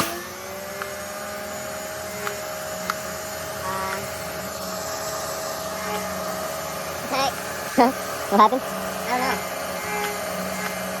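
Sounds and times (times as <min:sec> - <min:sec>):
pressure washer whine: 0:00.0 - 0:11.0.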